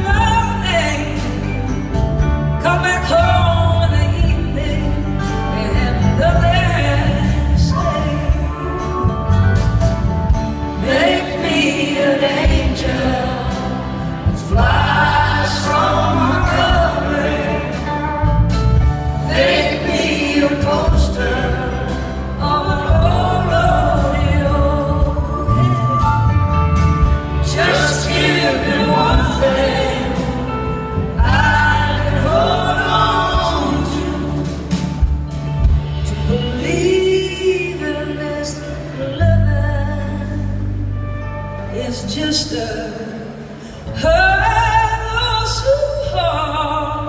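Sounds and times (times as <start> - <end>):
live blues band playing: 0.0 - 47.0.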